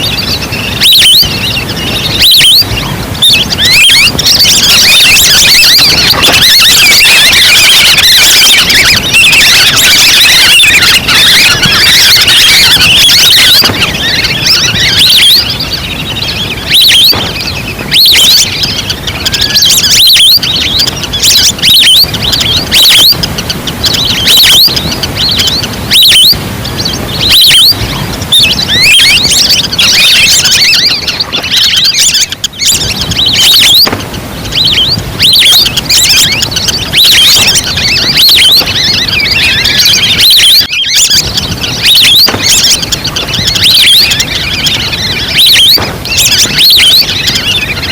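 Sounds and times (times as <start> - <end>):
duck call whistling chirps: 0.0 - 47.9.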